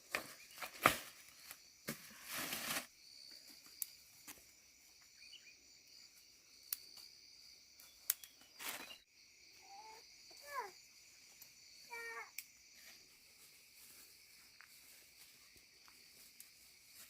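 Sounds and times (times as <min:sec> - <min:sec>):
high-pitched insect chorus: 0:00.2 - 0:17.0.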